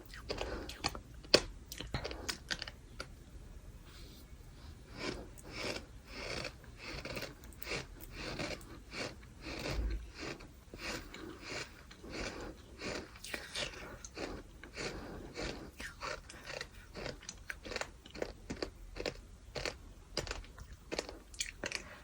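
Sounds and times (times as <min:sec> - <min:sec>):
crunchy chewing of sand: 0:03.9 - 0:22.0.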